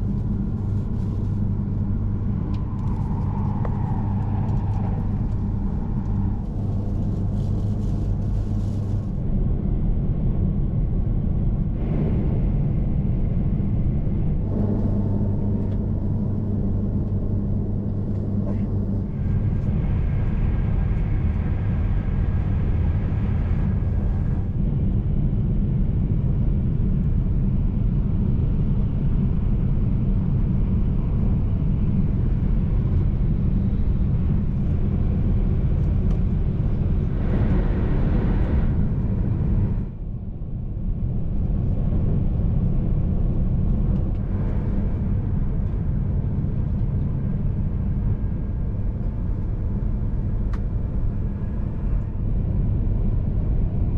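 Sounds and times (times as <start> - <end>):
train running at speed: 0.0 - 8.6, 11.1 - 53.9
track and air noise: 0.0 - 53.9.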